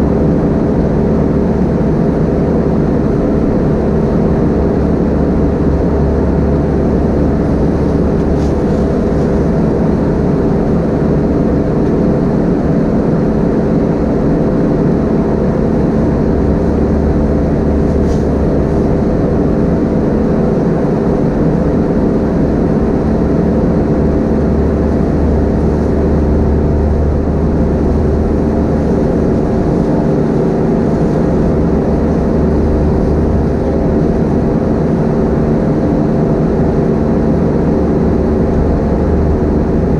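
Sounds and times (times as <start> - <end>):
aircraft cabin engine drone: 0.0 - 39.9
constant low hums: 0.0 - 39.9.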